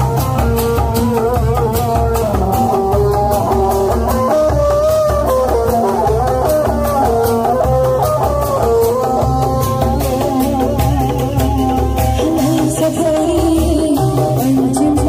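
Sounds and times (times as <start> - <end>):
drum and bass beat: 0.0 - 15.0
plucked string melody over loudspeakers: 0.0 - 15.0.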